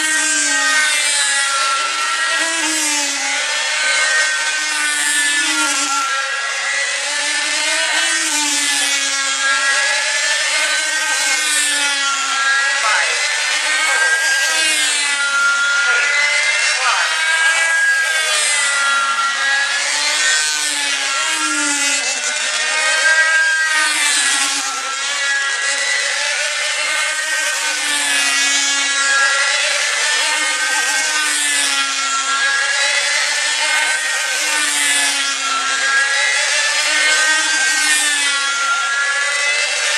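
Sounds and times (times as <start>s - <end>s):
model aircraft engines buzzing: 0.0s - 39.9s.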